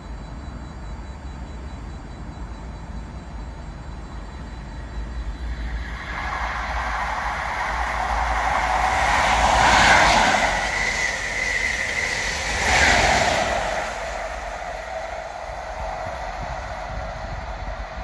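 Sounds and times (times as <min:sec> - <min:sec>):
high steady whine: 0:02.2 - 0:18.0
diesel train approaching: 0:02.5 - 0:18.0.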